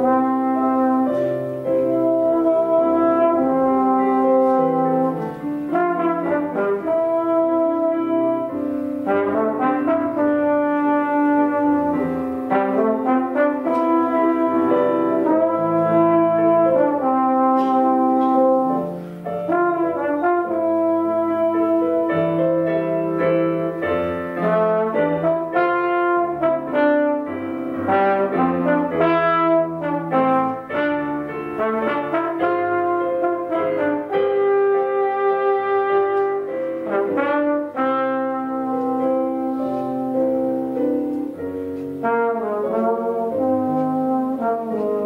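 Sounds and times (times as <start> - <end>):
instrumental chord music: 0.0 - 45.0.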